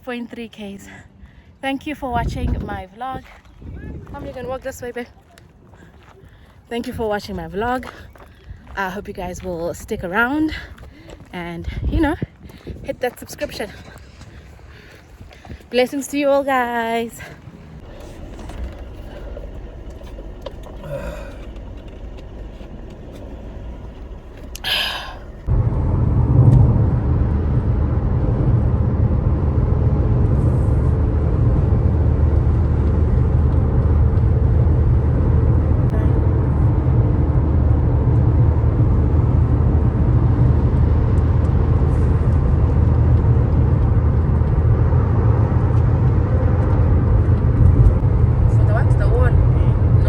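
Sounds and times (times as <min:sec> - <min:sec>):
car engine and road noise: 0:02.1 - 0:50.0.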